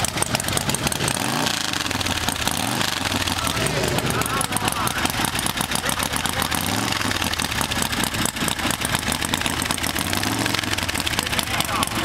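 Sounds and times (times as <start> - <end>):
motorcycle engine idling roughly: 0.0 - 12.0.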